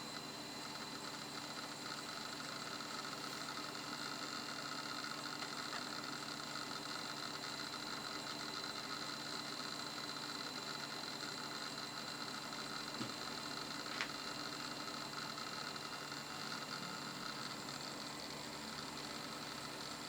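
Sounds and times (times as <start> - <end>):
hard disk drive spinning whine: 0.0 - 20.0.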